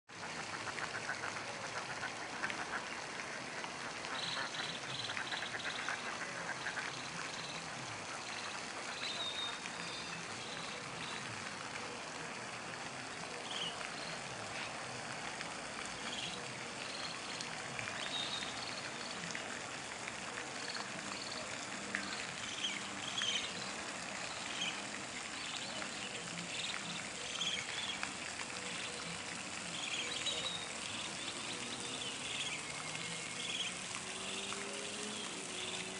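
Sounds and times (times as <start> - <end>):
outdoor background hiss: 0.1 - 35.9.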